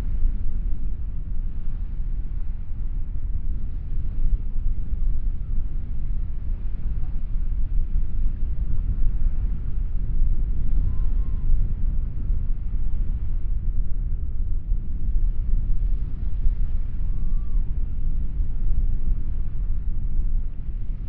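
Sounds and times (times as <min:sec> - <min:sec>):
faint seaside ambience: 0:00.0 - 0:21.0
wind buffeting microphone: 0:00.0 - 0:21.0.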